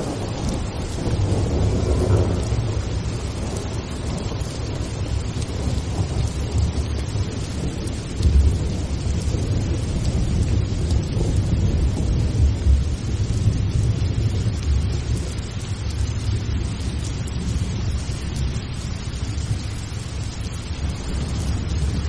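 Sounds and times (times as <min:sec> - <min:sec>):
rolling thunder rumble: 0:00.0 - 0:22.0
steady rain: 0:00.0 - 0:22.0.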